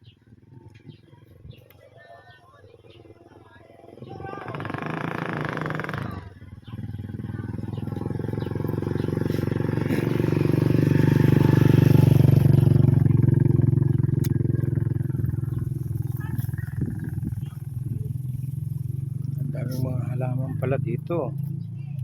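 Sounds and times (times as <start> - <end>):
vehicle engine droning: 3.8 - 22.0.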